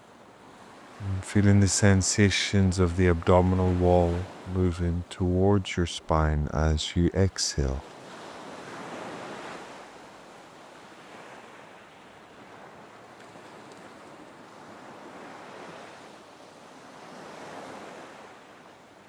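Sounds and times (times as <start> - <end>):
ocean waves washing on shore: 0.4 - 19.0.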